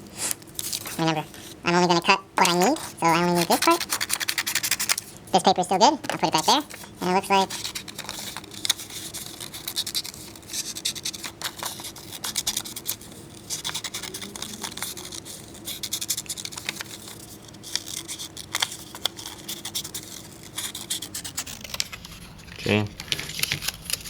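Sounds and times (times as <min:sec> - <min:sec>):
paper rustling: 0:00.0 - 0:05.3, 0:06.0 - 0:24.0
scissors snipping paper: 0:02.4 - 0:05.1, 0:06.0 - 0:22.1, 0:23.0 - 0:24.0.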